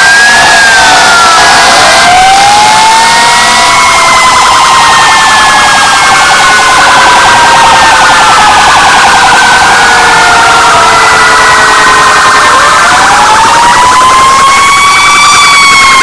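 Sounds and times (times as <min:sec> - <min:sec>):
fire truck sirens wailing: 0:00.0 - 0:16.0
siren warbling yelp: 0:00.0 - 0:16.0.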